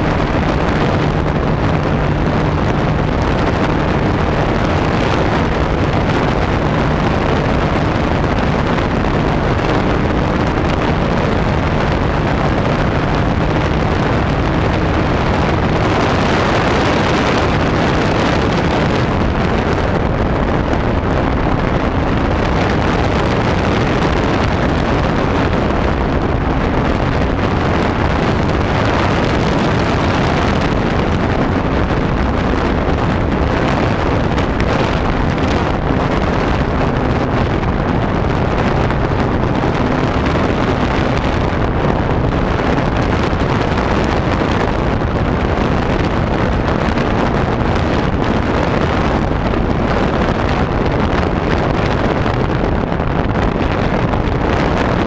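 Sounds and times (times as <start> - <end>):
wind rushing over camera: 0.0 - 55.0.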